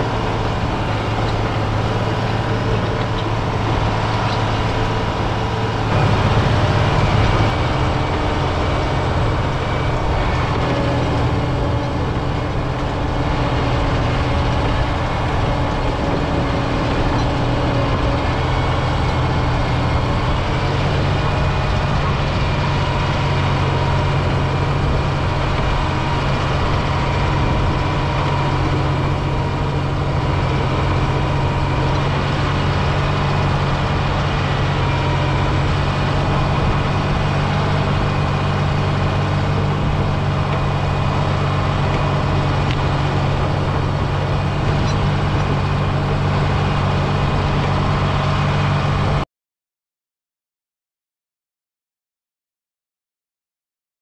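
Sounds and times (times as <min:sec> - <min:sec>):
diesel engine running steadily: 0:00.0 - 0:49.2.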